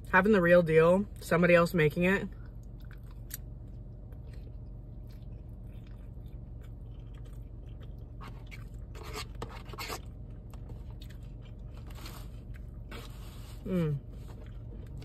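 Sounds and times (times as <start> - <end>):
low hum: 0.0 - 15.0
quiet chewing: 2.3 - 15.0.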